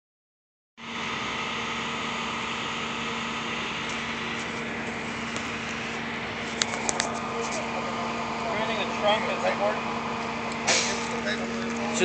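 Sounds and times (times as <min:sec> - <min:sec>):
vehicle engine idling: 0:00.8 - 0:12.0.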